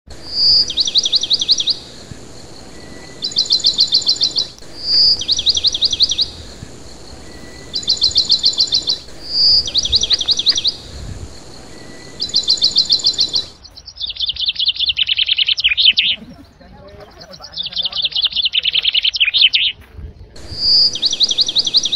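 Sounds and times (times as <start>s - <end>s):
scattered bird chirping: 0.1s - 19.8s, 20.4s - 21.9s
songbird singing: 0.1s - 19.8s, 20.4s - 21.9s.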